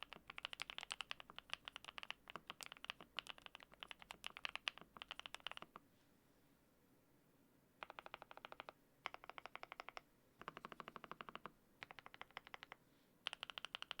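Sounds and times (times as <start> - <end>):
mechanical keyboard typing: 0.0 - 5.8, 7.8 - 14.0.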